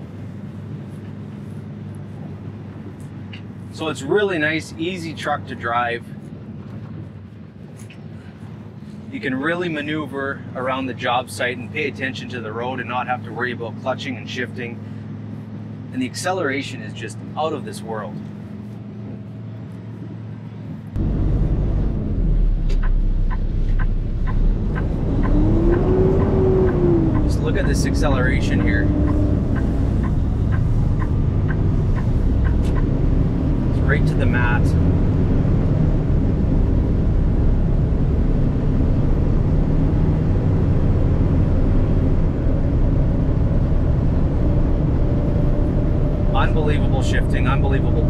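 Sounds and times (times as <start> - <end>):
diesel truck engine accelerating: 6.8 - 48.0.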